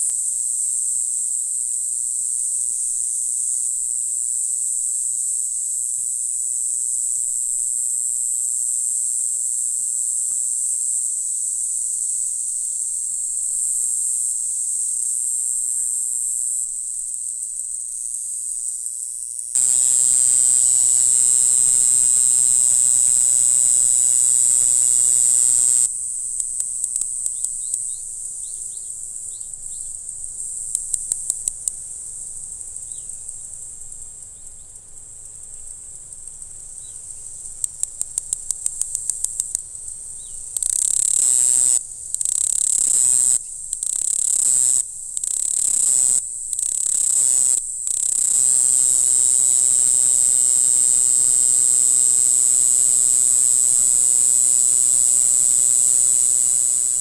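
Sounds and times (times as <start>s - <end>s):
cicada loud buzz: 0.0s - 34.8s, 36.7s - 57.0s
cicada clicking pulses: 0.0s - 57.0s
cicadas singing: 0.0s - 57.0s.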